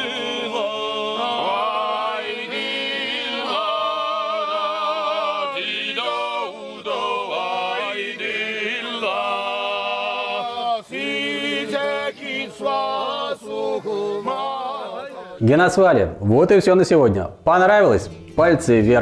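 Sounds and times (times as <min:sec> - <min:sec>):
men's choir singing a cappella: 0:00.0 - 0:15.5.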